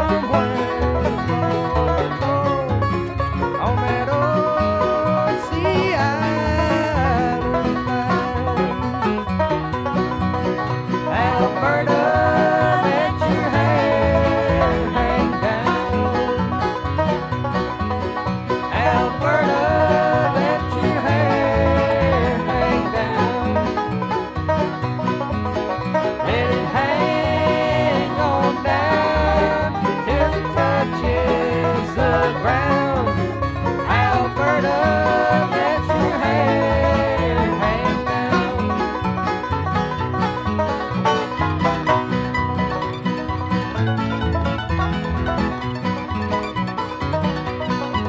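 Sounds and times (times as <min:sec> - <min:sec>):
banjo: 0:00.0 - 0:48.0
guitar: 0:00.0 - 0:48.0
sliding lead line: 0:00.0 - 0:48.0.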